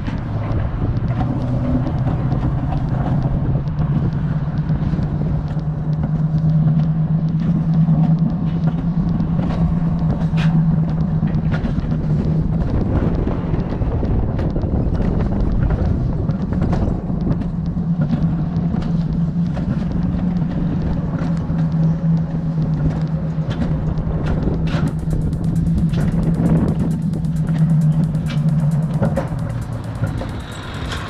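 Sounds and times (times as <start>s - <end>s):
scattered clicks: 0.0s - 31.0s
sled humming on rail: 0.0s - 31.0s.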